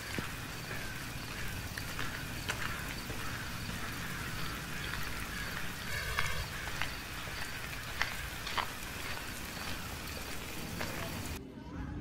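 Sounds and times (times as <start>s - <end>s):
drip-like ticks: 0.0s - 11.4s
rain-like hiss: 0.0s - 11.4s.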